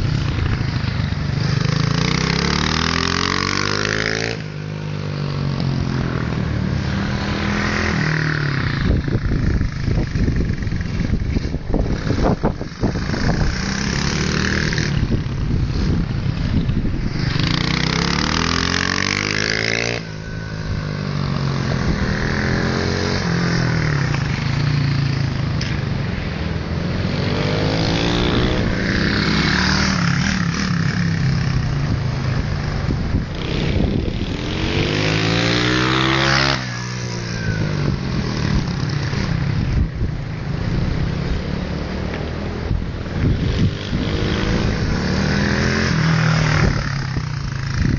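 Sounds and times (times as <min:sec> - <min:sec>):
motorcycle engines running: 0:00.0 - 0:47.9
motorcycle passing close by: 0:00.0 - 0:47.9.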